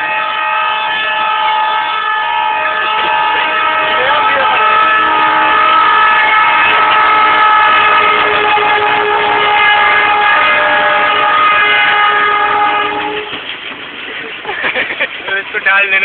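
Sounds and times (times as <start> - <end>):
loud horn blast: 0.0 - 13.5.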